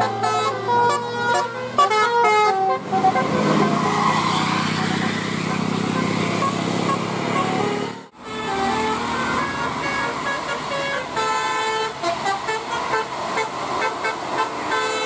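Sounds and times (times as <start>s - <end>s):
engine and road rumble: 0.0s - 15.0s
multi-tone bus horn tune: 0.0s - 15.0s.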